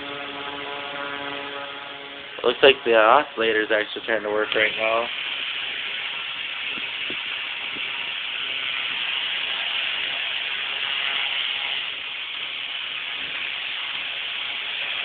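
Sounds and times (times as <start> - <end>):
electric fan blowing air: 0.0 - 15.0.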